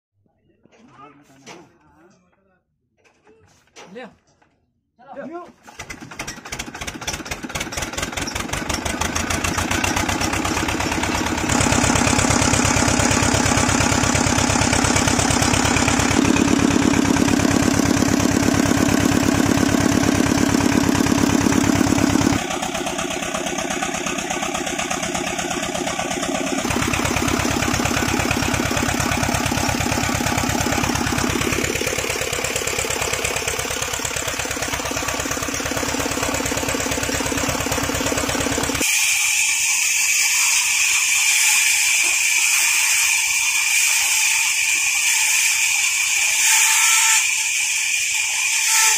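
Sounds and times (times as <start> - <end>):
tractor diesel engine running: 5.7 - 46.5.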